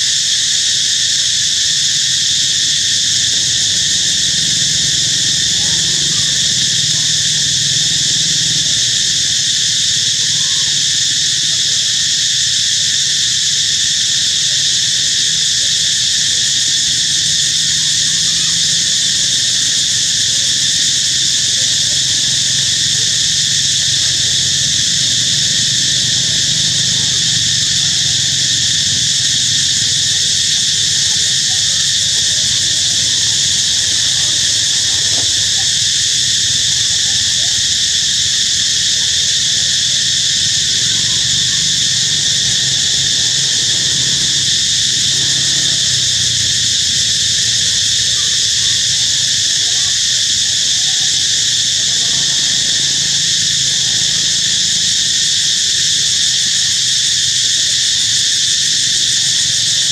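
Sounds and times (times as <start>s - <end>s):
shrill insect chorus: 0.0s - 59.9s.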